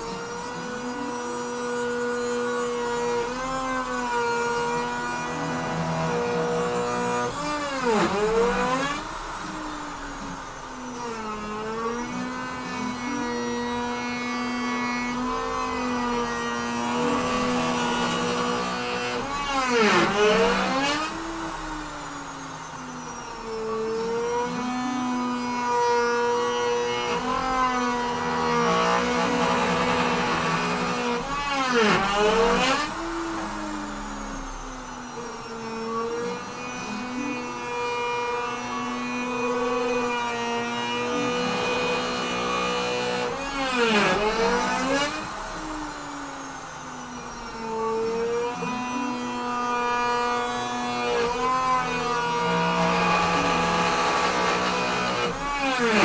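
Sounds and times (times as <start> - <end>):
router motor whine: 0.0 - 56.0.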